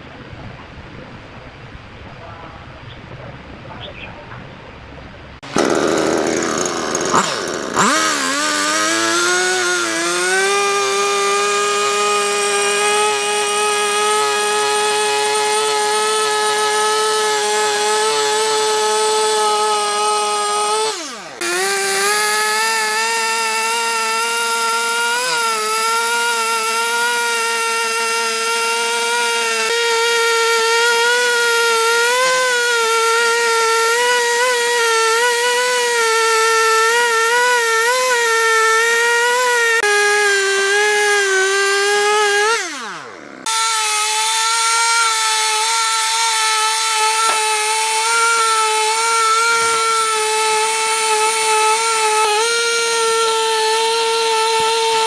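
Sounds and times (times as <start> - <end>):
chainsaw cutting log: 5.4 - 55.0.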